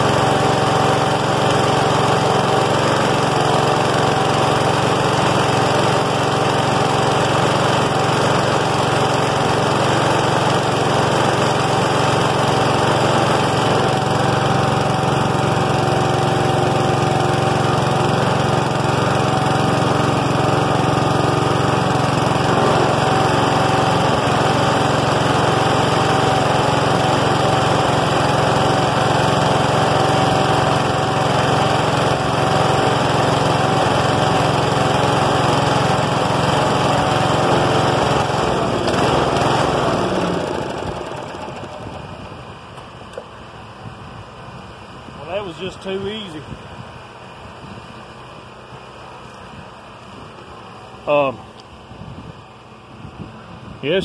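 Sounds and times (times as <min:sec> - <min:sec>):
riding mower engine running: 0:00.0 - 0:54.0.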